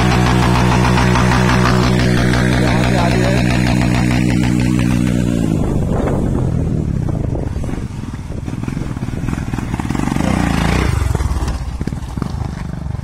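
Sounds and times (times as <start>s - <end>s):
motorcycle engine revving: 0.0s - 13.0s
motorcycle engines: 0.0s - 13.0s.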